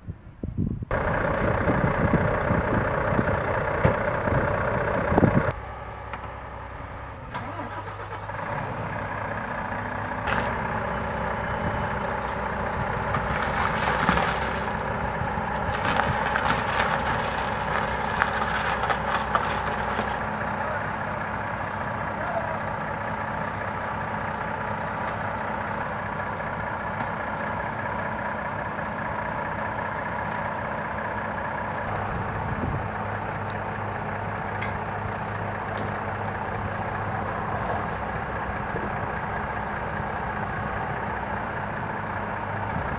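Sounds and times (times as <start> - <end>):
heavy diesel engines running: 0.0 - 42.9.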